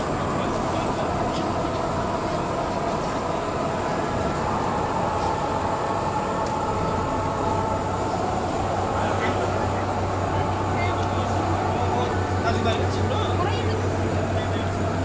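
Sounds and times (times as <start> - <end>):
boarding crowd noise: 0.0 - 15.0
low hum: 0.0 - 15.0
metro train rumbling: 0.0 - 15.0.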